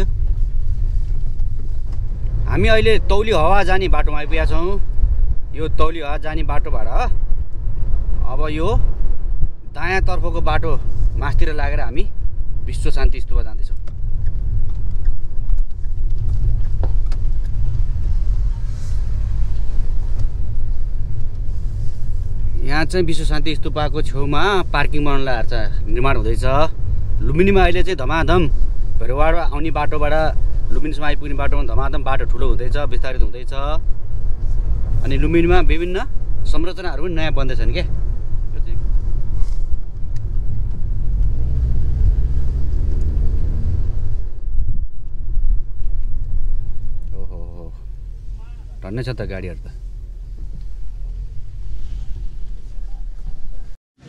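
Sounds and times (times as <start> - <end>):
tyres and engine rumble: 0.0 - 54.0.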